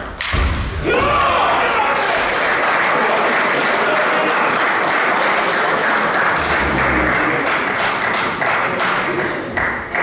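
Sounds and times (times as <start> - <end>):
spectators clapping: 1.6 - 10.0.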